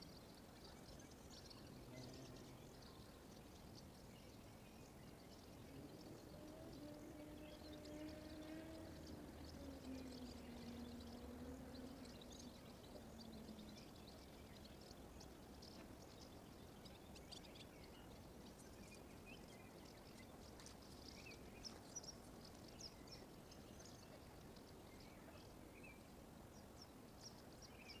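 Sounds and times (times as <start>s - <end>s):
faint low hum: 0.0s - 28.0s
low background hiss: 0.0s - 28.0s
songbirds chirping: 0.0s - 28.0s.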